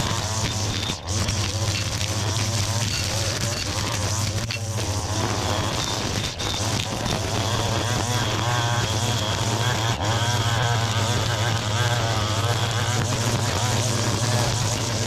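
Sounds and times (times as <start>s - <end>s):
string trimmer engine running: 0.0s - 15.0s.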